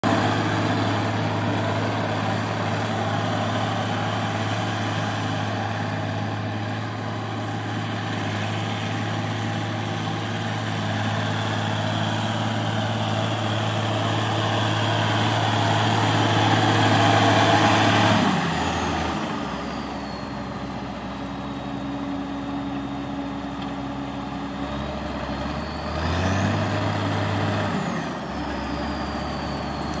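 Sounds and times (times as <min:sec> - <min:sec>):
diesel engine idling and revving: 0:00.0 - 0:30.0.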